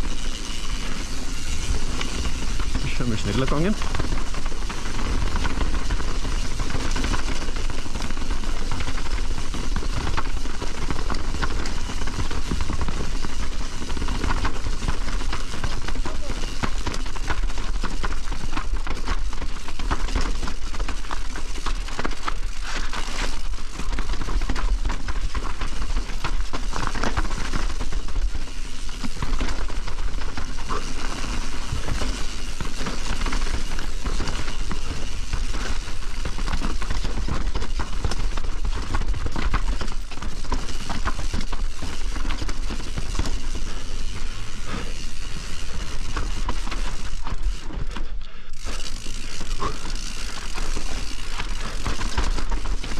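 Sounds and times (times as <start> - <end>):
tyres over roots and stones: 0.0 - 52.9.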